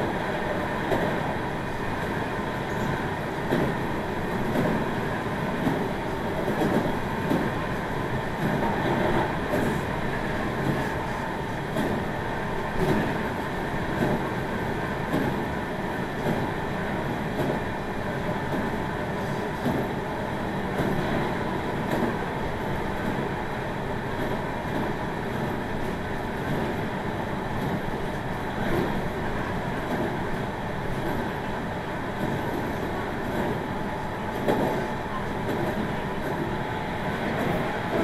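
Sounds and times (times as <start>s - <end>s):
electric train rumble: 0.0s - 38.0s.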